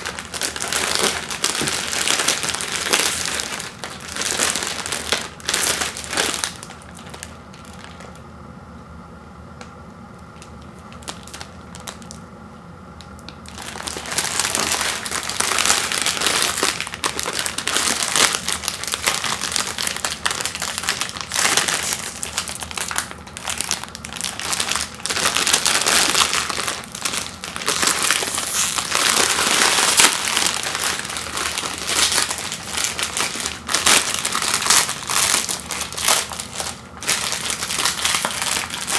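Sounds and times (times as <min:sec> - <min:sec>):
plastic packaging crinkling: 0:00.0 - 0:08.3, 0:10.2 - 0:12.3, 0:13.0 - 0:38.9.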